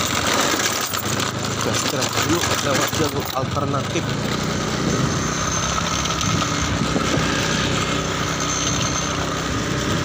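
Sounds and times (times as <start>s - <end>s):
motorcycle engine running: 0.0s - 10.0s
road noise hum: 0.0s - 10.0s.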